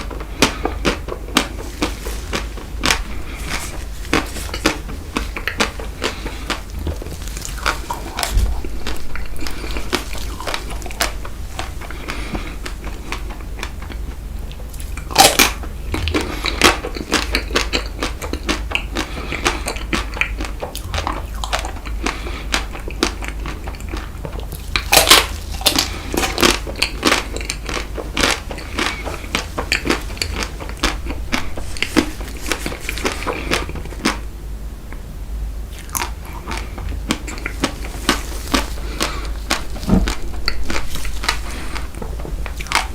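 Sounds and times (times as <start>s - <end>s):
crunching and chewing: 0.0s - 35.0s, 35.7s - 42.9s.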